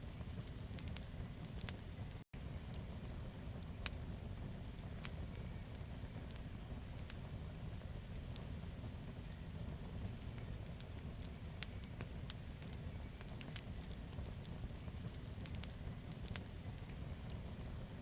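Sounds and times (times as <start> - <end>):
campfire crackling and popping: 0.0 - 18.0
low steady fire rumble: 0.0 - 18.0.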